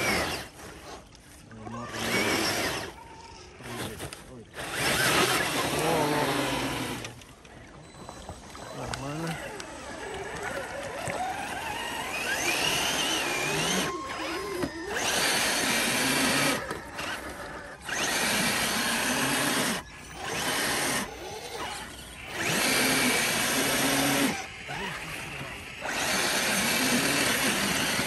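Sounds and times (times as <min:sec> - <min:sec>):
electric motor and gears whining: 0:00.0 - 0:28.0.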